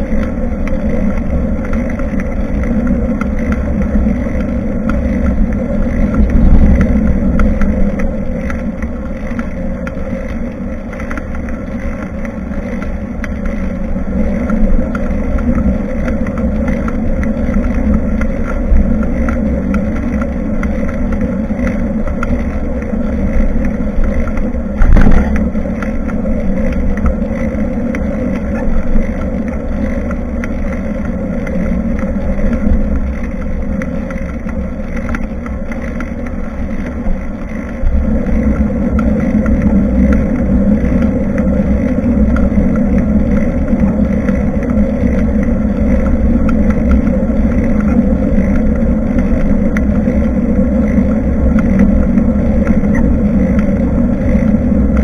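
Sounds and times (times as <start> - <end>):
tyre road and wind noise: 0.0 - 55.0.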